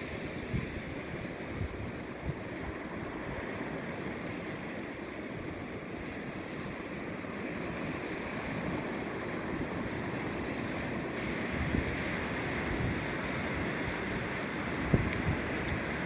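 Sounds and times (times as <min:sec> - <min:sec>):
sea surf washing: 0:00.0 - 0:16.0
wind rumbling on microphone: 0:00.0 - 0:16.0.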